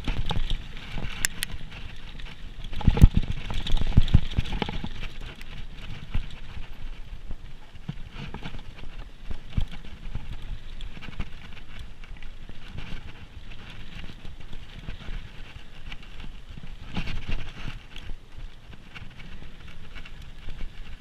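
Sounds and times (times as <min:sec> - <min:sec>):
bike rattling over rough trail: 0:00.0 - 0:21.0
wind noise: 0:00.0 - 0:21.0.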